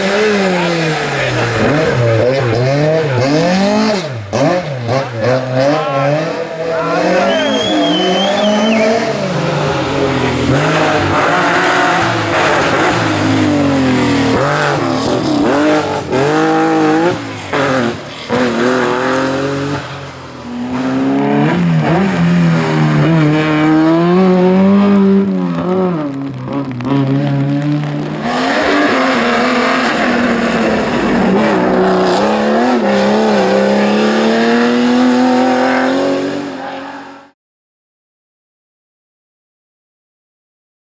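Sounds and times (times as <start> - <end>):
rally car engines revving: 0.0 - 37.4.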